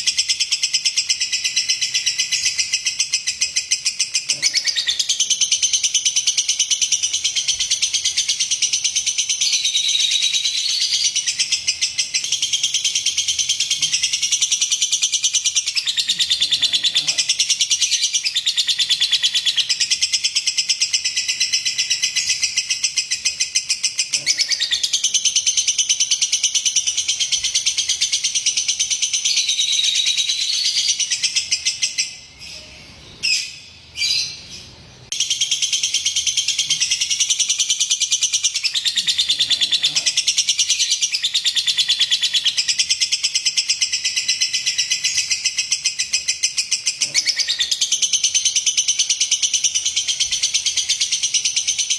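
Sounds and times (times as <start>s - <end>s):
lovebird chattering trill: 0.0s - 51.9s.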